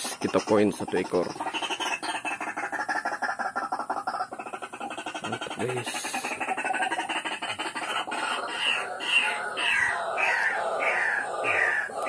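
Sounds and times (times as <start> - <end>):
rapid chirring: 0.0 - 12.0.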